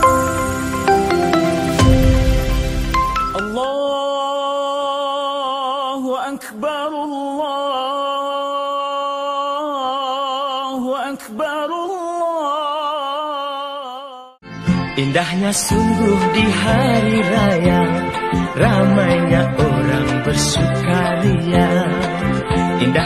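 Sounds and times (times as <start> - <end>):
person singing with vibrato: 3.2 - 23.0.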